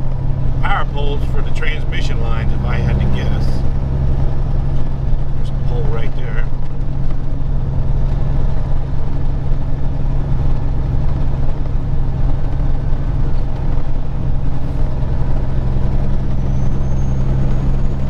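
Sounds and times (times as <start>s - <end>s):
road noise: 0.0s - 18.0s
truck engine drone: 0.0s - 18.0s.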